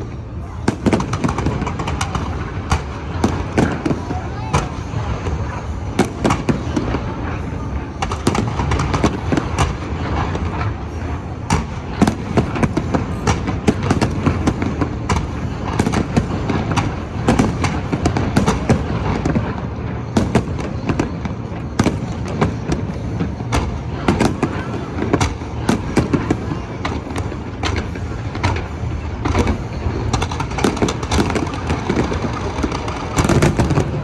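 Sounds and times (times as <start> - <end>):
fireworks bangs and crackles: 0.0 - 34.0
low rumble of explosions: 0.0 - 34.0.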